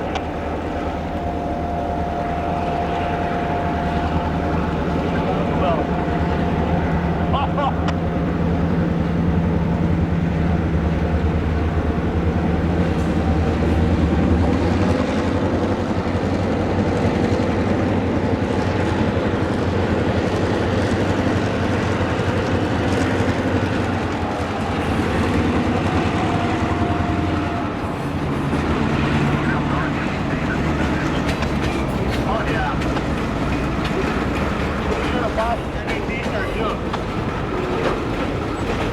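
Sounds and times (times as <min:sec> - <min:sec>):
train engine drone: 0:00.0 - 0:38.9
train rolling noise: 0:00.0 - 0:38.9.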